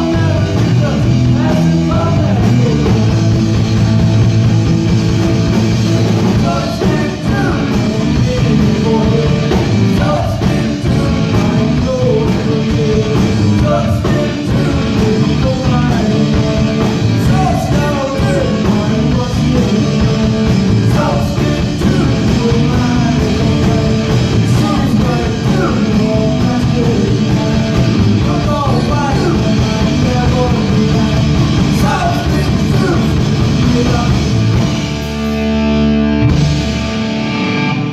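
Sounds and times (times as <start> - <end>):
rock band with singing: 0.0 - 37.9.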